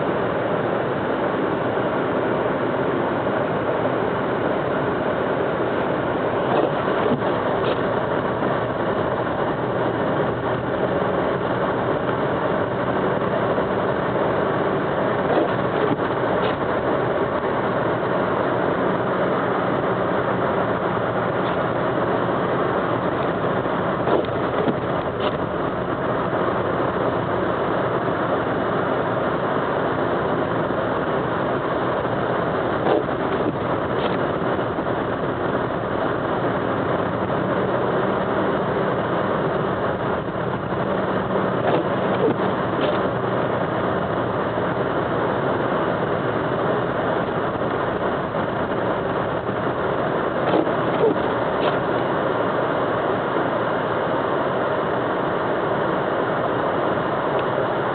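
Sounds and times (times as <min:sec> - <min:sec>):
car driving on snow: 0:00.0 - 0:57.9.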